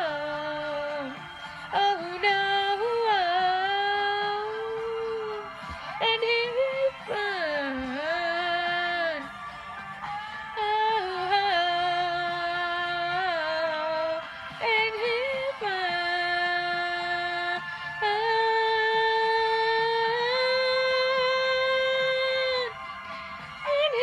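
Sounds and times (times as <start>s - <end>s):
woman singing wordless notes: 0.0s - 9.3s, 10.5s - 22.8s, 23.6s - 24.0s.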